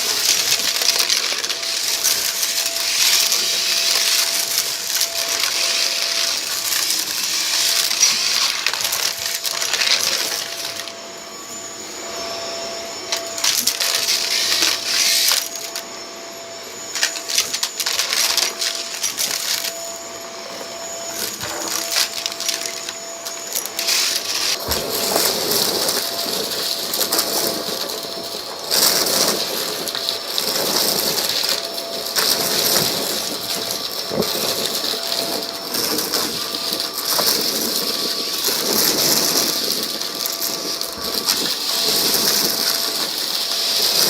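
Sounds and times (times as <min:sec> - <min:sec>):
debris rattling through vacuum: 0:00.0 - 0:11.0, 0:13.1 - 0:15.8, 0:16.8 - 0:44.0
vacuum cleaner motor whine: 0:00.0 - 0:44.0.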